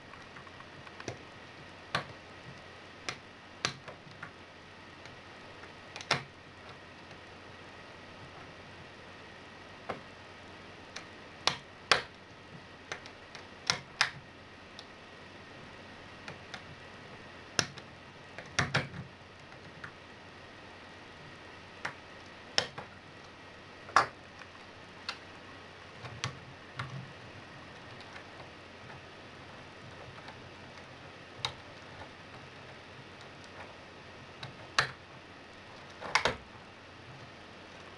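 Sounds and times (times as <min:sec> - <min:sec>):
faint steady hiss: 0:00.0 - 0:37.9.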